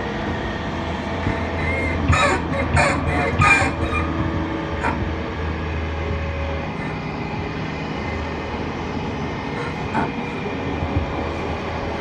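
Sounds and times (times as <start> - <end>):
low hum: 0.0 - 12.0
train wheels rumbling on track: 0.0 - 12.0.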